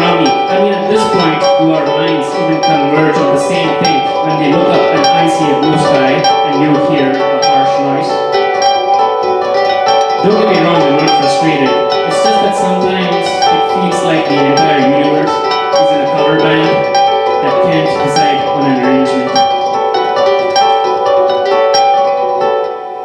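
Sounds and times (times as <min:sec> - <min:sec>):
ringing plucked tones: 0:00.0 - 0:23.0.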